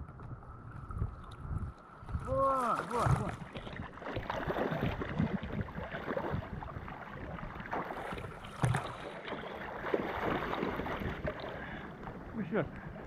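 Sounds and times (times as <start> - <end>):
sea water splashing: 2.4 - 13.0.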